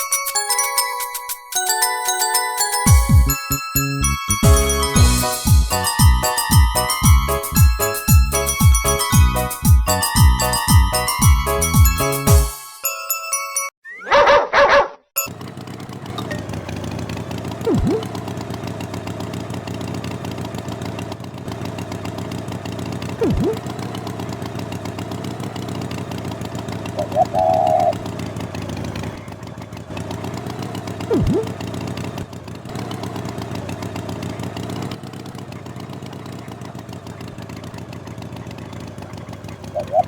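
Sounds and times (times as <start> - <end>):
engine running steadily: 2.9 - 12.4, 15.2 - 40.0.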